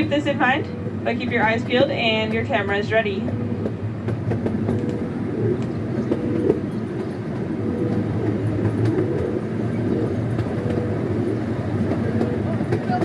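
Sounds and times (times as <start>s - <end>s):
train rumbling along track: 0.0s - 13.0s
wheels clicking on rails: 0.0s - 13.0s.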